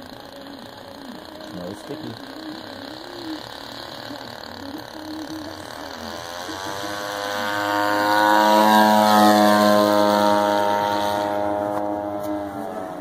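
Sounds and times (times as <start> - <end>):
model airplane motor and propeller: 0.0 - 13.0.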